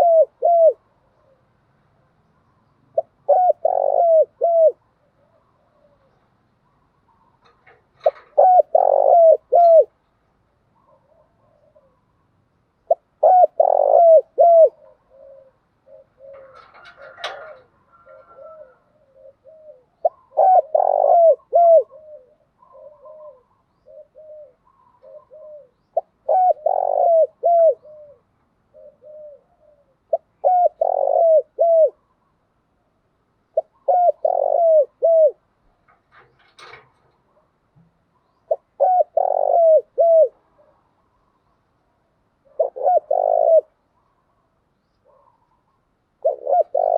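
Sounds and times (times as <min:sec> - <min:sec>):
dove cooing: 0:00.0 - 0:01.6, 0:02.9 - 0:10.0, 0:10.8 - 0:12.2, 0:12.8 - 0:32.3, 0:33.5 - 0:37.5, 0:38.2 - 0:41.5, 0:42.4 - 0:46.9.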